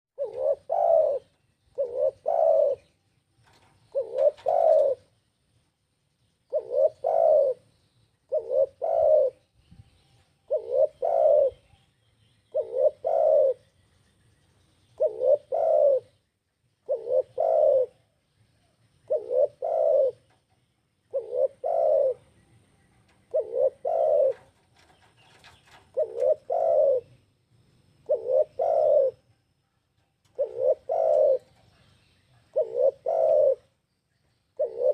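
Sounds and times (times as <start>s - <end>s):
dove cooing: 0.2s - 5.2s, 6.5s - 7.7s, 8.3s - 11.8s, 12.4s - 13.7s, 15.0s - 16.2s, 16.8s - 27.3s, 28.0s - 29.4s, 30.2s - 33.8s, 34.6s - 34.9s.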